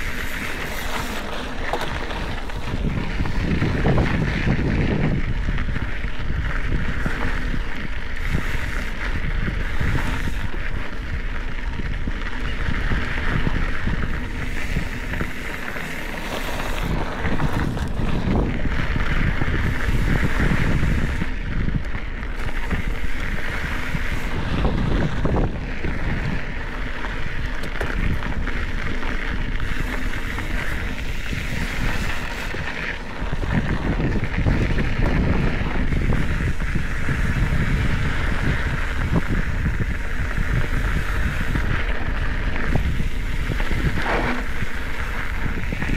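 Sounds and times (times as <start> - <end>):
bike knocks and rattles: 0.0 - 45.9
tyres on dry dirt: 0.0 - 45.9
wind buffeting microphone: 0.0 - 45.9.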